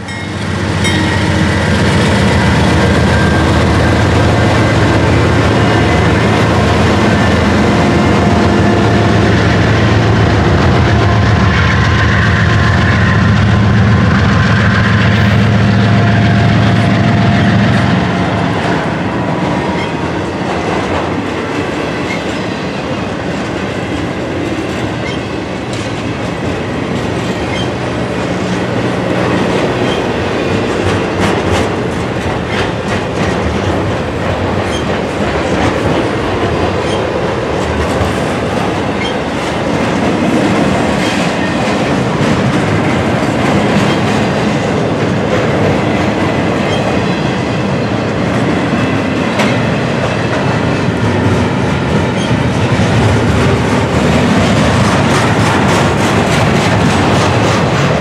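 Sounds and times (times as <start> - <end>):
clickety-clack over rail joints: 0.0 - 58.0
diesel locomotive engine hum: 0.0 - 58.0
train wheels on rails: 0.0 - 58.0.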